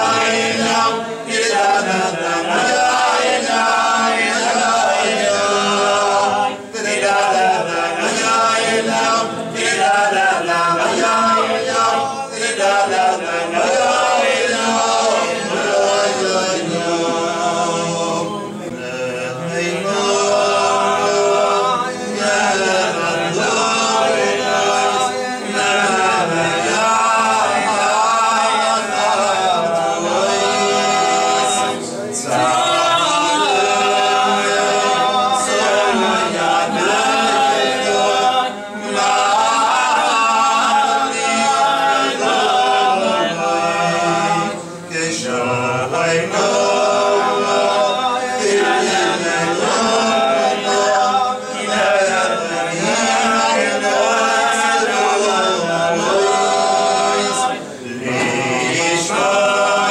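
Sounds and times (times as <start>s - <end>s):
men singing prayers unaccompanied: 0.0s - 59.9s.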